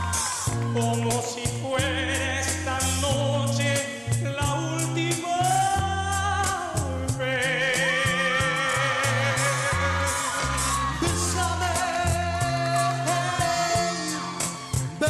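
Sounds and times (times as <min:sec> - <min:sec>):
instrumental accompaniment with beat: 0:00.0 - 0:15.0
man singing with vibrato: 0:00.0 - 0:15.0.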